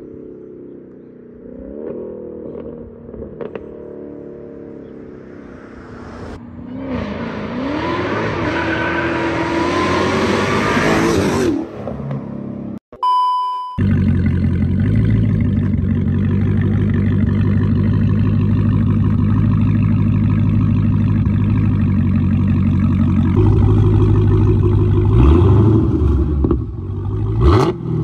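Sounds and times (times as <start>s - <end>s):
car engine revving: 0.0s - 12.7s, 13.8s - 28.0s.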